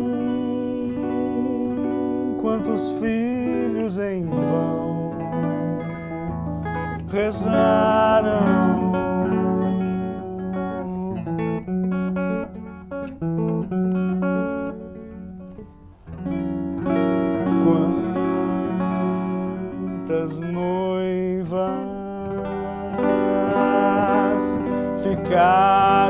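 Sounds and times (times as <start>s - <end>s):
hollow-body guitar playing: 0.0s - 26.0s.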